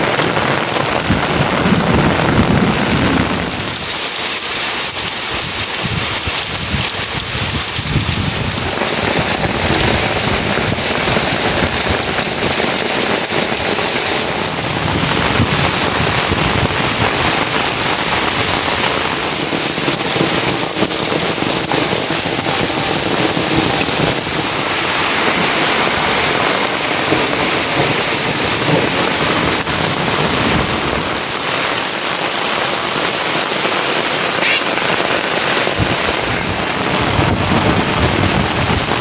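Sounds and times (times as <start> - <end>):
heavy rain on a surface: 0.0 - 39.0.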